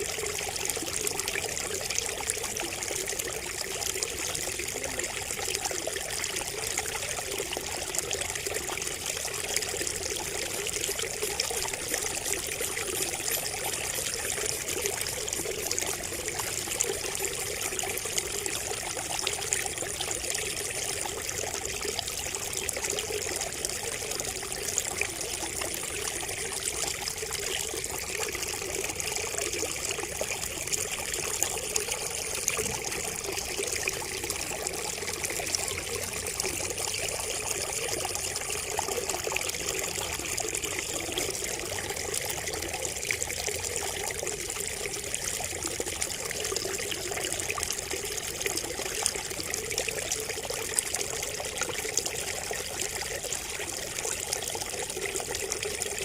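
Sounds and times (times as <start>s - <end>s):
water trickling from spout: 0.0s - 56.0s.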